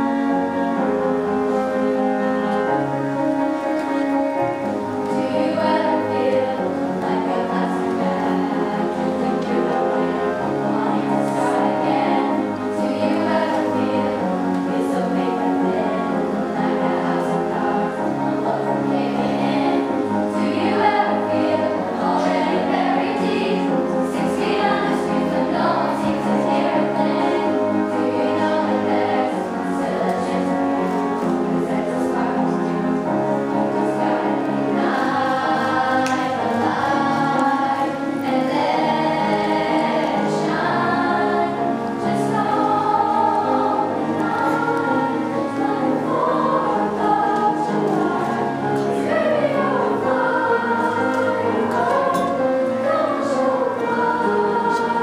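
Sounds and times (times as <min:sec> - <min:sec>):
children's choir singing: 0:00.0 - 0:55.0
musical accompaniment with bass notes: 0:00.0 - 0:55.0.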